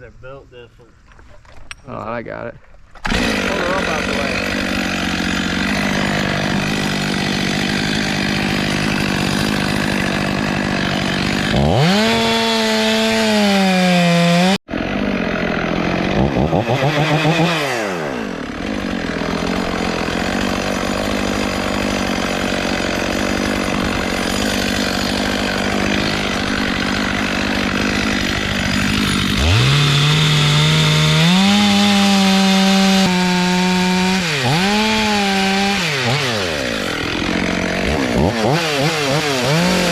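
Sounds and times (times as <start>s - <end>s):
chainsaw cutting wood: 2.9s - 39.9s.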